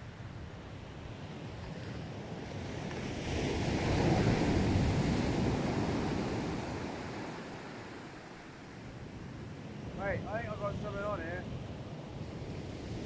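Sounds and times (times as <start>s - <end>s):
surf breaking on shore: 1.5s - 13.0s.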